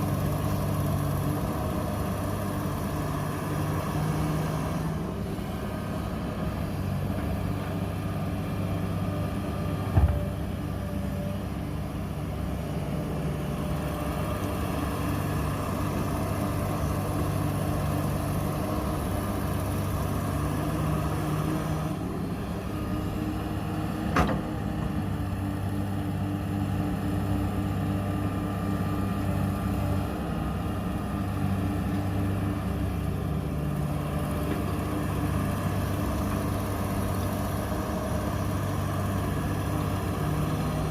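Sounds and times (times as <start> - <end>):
diesel excavator engine running: 0.0 - 40.9.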